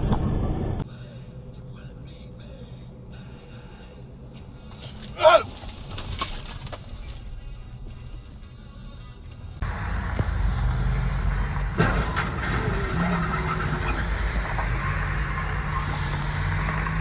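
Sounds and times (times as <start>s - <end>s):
road noise: 0.0s - 17.0s
vehicle engine: 0.0s - 17.0s.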